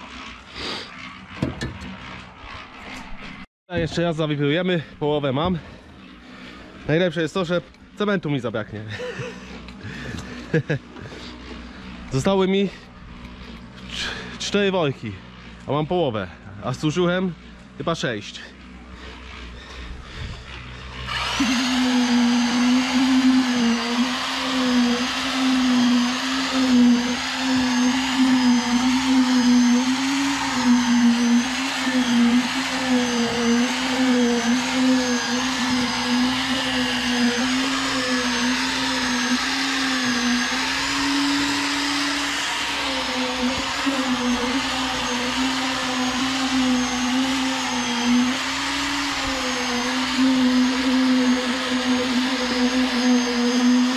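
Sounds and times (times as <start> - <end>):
concrete vibrator humming: 0.0 - 53.9.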